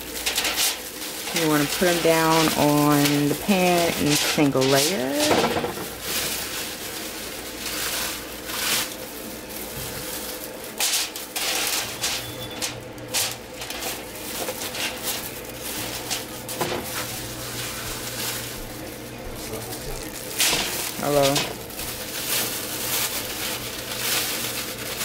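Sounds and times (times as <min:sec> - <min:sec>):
aluminium foil crinkling: 0:00.0 - 0:25.0.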